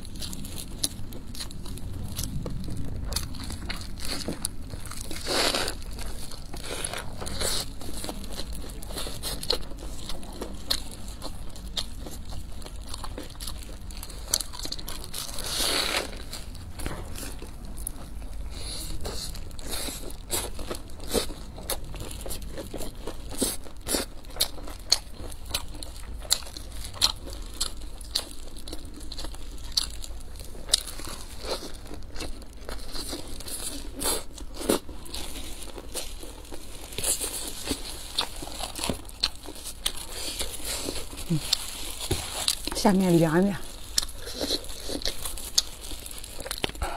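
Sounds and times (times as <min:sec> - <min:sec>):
crunchy bites into fried flatbread: 0:00.0 - 0:42.8
plastic gloves crinkling: 0:00.0 - 0:46.9.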